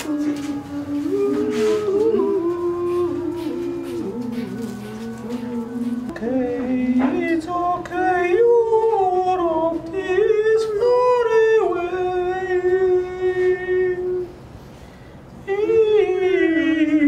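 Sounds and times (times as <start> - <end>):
person singing wordless notes: 0.0 - 14.3.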